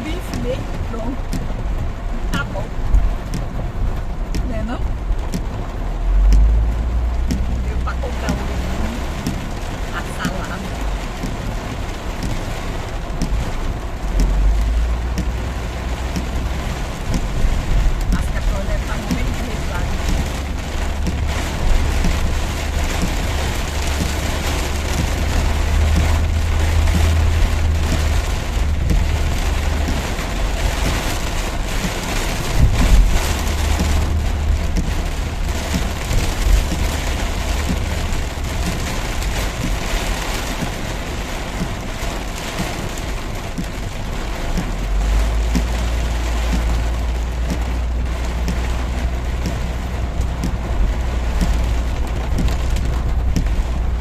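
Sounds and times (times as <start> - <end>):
heavy rain pouring: 0.0 - 54.0
low vehicle rumble: 0.0 - 54.0.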